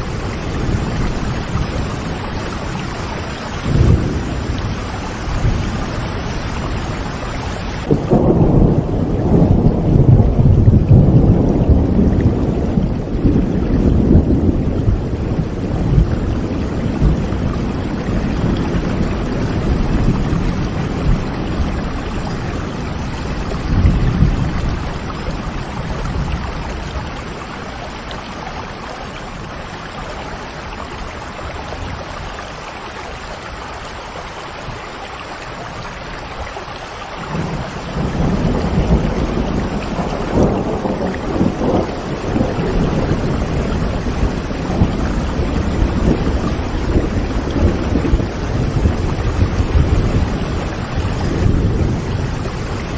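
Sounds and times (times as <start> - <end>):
rolling thunder: 0.0 - 32.4, 37.2 - 52.9
steady rain: 0.0 - 52.9.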